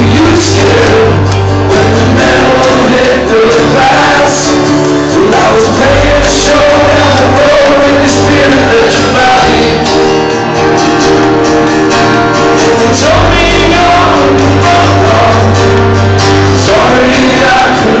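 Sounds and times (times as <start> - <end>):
person singing: 0.0 - 10.5, 12.1 - 18.0
strummed acoustic guitars: 0.0 - 18.0
upright double bass: 0.0 - 18.0.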